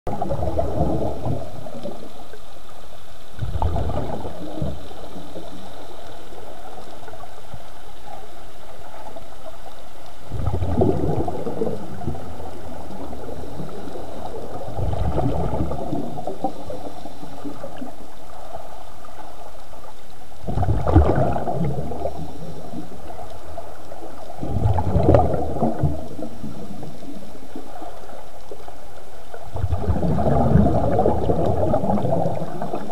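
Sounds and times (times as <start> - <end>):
steady hiss: 0.1 - 32.9
underwater bubbles rushing: 0.1 - 32.9.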